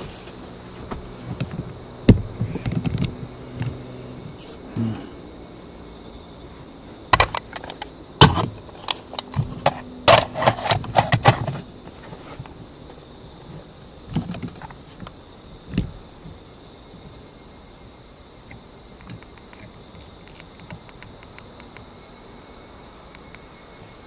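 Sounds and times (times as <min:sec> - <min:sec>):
high insect buzz: 0:00.0 - 0:24.0.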